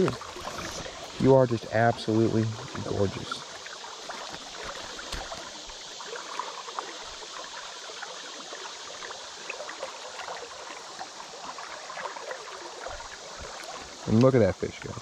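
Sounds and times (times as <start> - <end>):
river water babbling: 0.0 - 15.0
small water splashes: 0.0 - 15.0.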